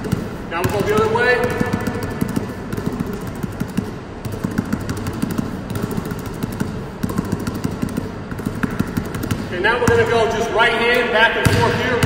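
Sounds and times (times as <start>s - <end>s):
basketball bouncing on hardwood floor: 0.0s - 10.2s, 11.4s - 12.0s.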